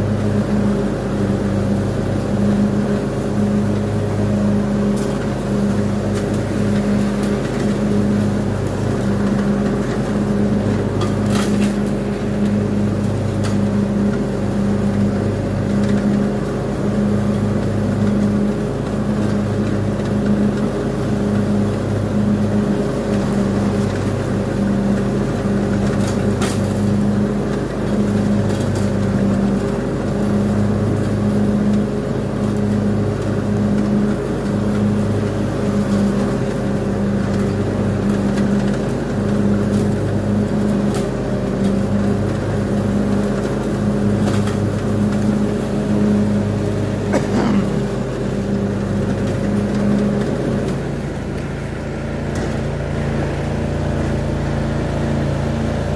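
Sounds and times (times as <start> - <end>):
riding mower engine hum: 0.0 - 55.9.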